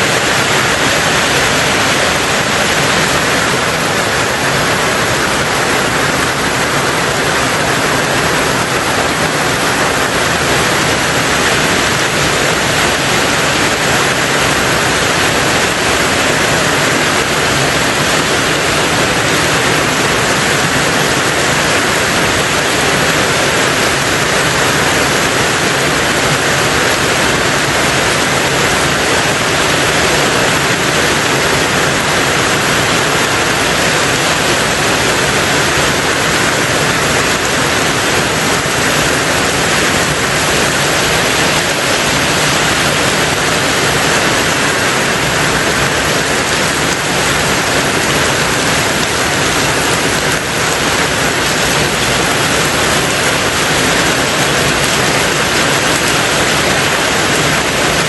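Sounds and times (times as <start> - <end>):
rain on a tin roof: 0.0 - 58.0.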